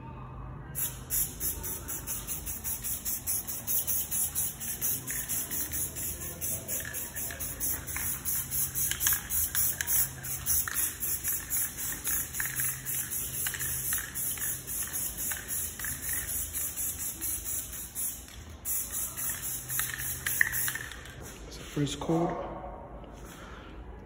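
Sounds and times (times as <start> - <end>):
hi-hat beat: 0.8 - 21.1.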